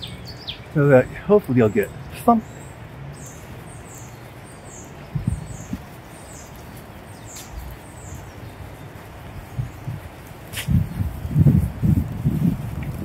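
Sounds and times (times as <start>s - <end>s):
songbird chirping: 0.0s - 11.1s.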